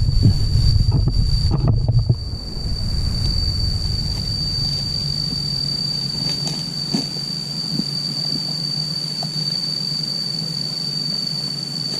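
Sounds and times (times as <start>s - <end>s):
high-pitched insect drone: 0.0s - 11.9s
low hum: 0.0s - 11.9s.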